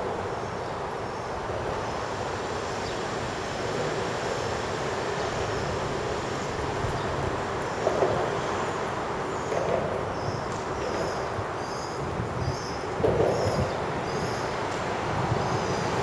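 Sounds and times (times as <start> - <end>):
vehicles rumbling overhead: 0.0 - 16.0.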